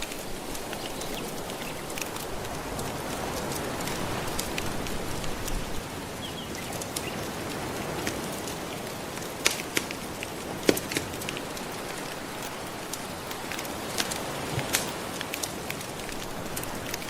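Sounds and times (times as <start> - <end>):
ocean waves washing: 0.0 - 17.0
wood fire crackling and popping: 0.0 - 17.0.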